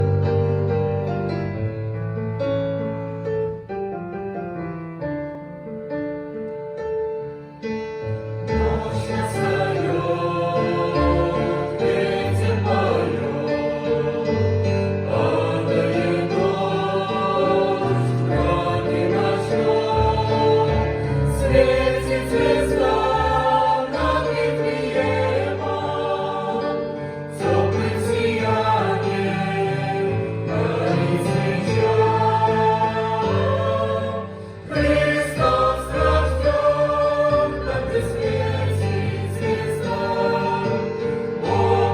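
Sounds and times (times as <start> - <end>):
choir singing chords: 8.3 - 41.9.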